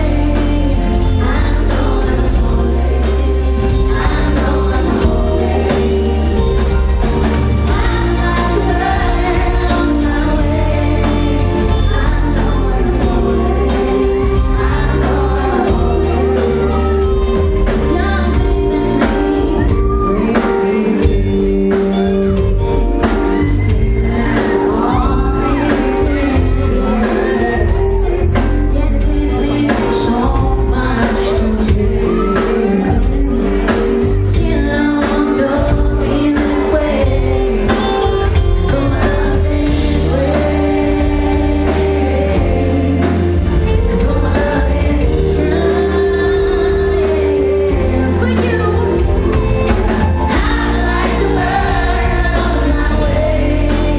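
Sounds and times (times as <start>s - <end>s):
heavy bass: 0.0s - 53.9s
keyboard chords: 0.0s - 53.9s
woman singing: 0.0s - 53.9s.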